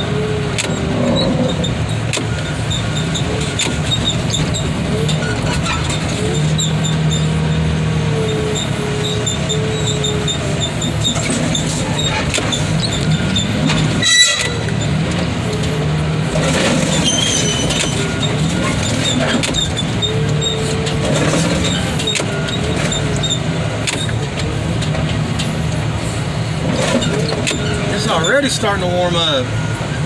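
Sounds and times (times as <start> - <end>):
engine drone: 0.0 - 30.0
metal squealing: 0.0 - 30.0.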